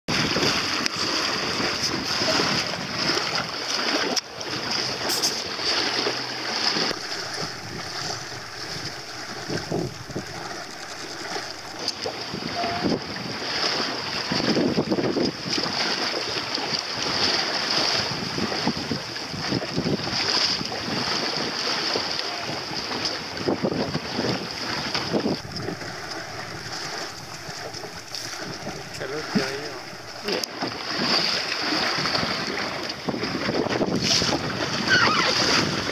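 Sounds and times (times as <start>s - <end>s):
water splashing along a hull: 0.1s - 35.9s
wind buffeting microphone: 0.1s - 35.9s.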